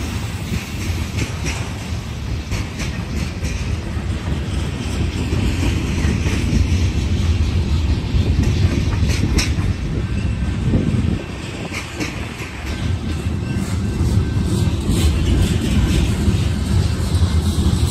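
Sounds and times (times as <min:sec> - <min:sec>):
train wheels rumbling on rail: 0:00.0 - 0:17.9
wheels clacking over rail joints: 0:00.0 - 0:17.9.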